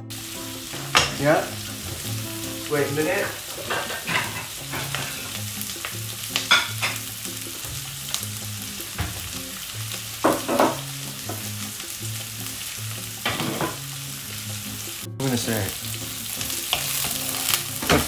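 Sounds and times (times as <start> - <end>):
food sizzling in oil in a wok: 0.0 - 18.0
oil crackles: 0.1 - 18.0.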